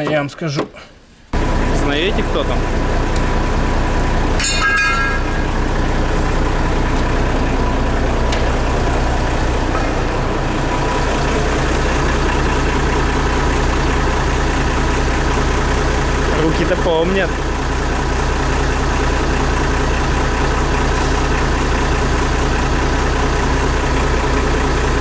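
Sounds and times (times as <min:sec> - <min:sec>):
truck engine idling: 0:01.2 - 0:25.0.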